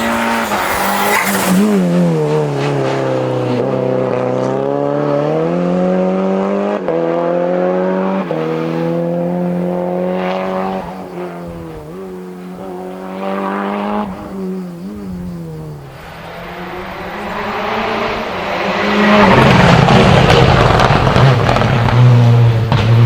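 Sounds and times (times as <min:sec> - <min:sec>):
race car engine revving: 0:00.0 - 0:23.0.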